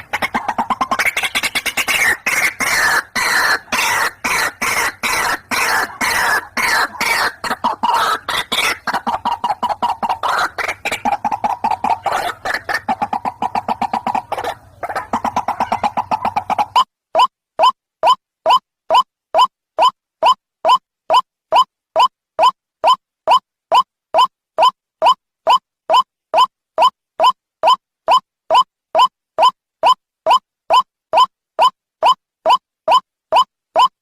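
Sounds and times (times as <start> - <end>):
waterhen croaking calls: 0.0 - 34.0.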